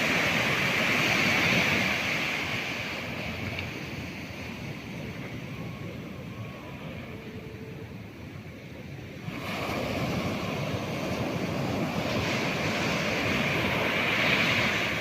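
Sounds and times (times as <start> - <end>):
ocean waves surging: 0.0 - 15.0.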